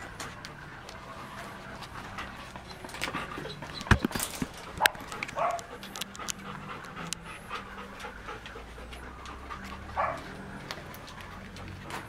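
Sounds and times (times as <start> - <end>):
puppy panting: 0.0 - 12.0
scattered clicks: 1.7 - 12.0.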